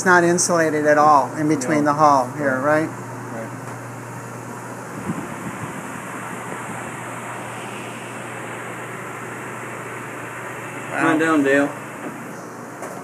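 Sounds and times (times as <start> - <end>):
ventilation rushing hum: 0.0 - 13.0.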